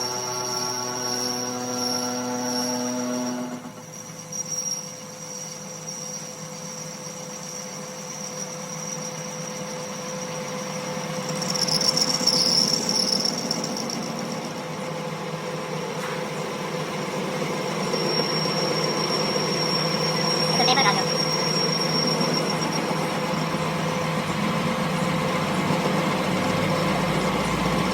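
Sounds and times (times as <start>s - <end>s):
machine whining and humming: 0.0s - 27.9s.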